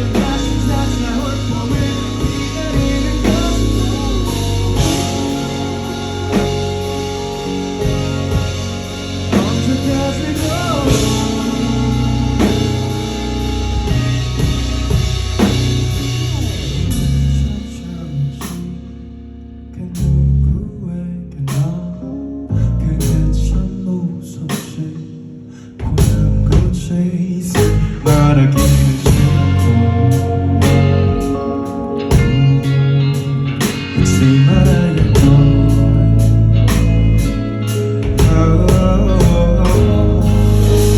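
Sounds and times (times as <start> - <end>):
live rock band playing: 0.0 - 19.4, 25.7 - 40.9.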